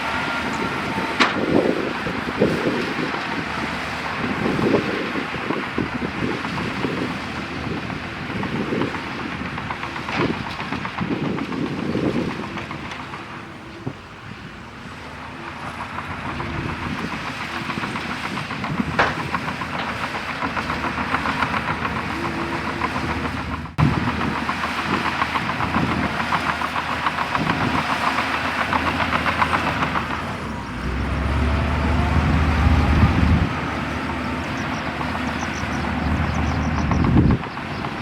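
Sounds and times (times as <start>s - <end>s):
bulldozer diesel engine: 0.0s - 38.0s
steel tracks clattering: 0.0s - 38.0s.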